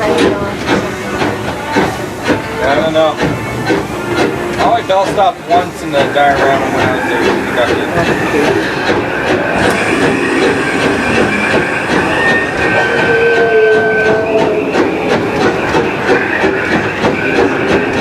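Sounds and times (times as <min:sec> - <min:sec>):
steam locomotive rolling: 0:00.0 - 0:18.0
steady squeal: 0:02.6 - 0:18.0.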